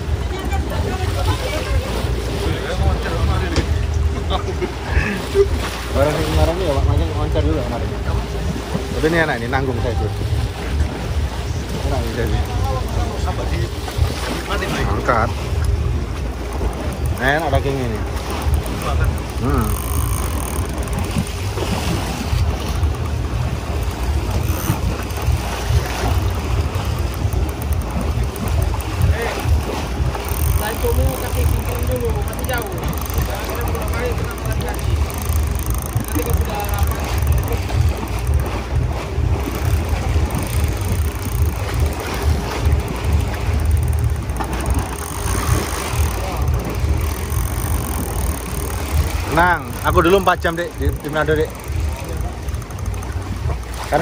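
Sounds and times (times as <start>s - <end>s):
boat engine rumbling: 0.0s - 54.0s
sea noise: 0.0s - 54.0s.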